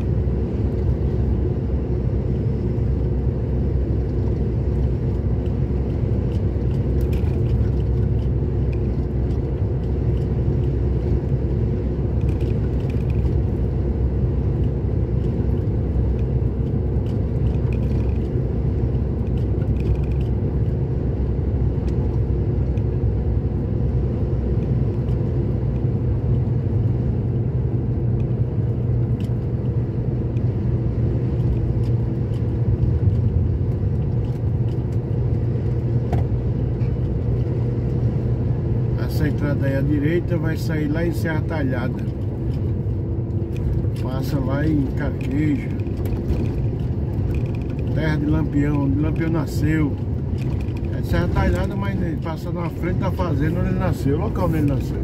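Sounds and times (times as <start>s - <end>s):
road noise: 0.0s - 55.0s
vehicle engine drone: 0.0s - 55.0s.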